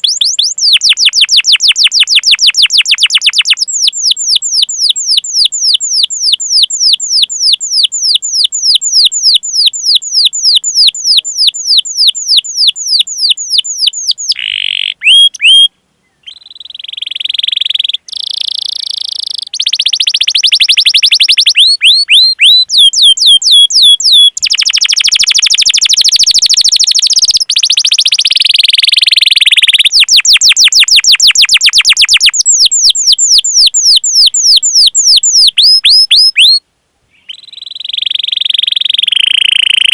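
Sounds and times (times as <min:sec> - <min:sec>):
canary singing: 0:00.0 - 0:36.6, 0:37.2 - 0:39.9.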